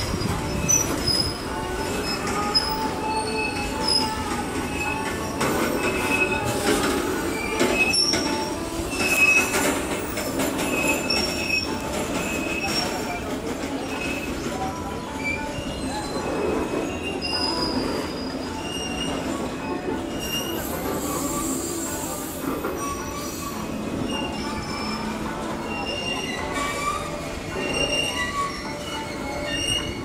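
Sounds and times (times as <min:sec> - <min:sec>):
freight train wheels clattering: 0:00.0 - 0:30.0
wheel squeals: 0:00.0 - 0:30.0.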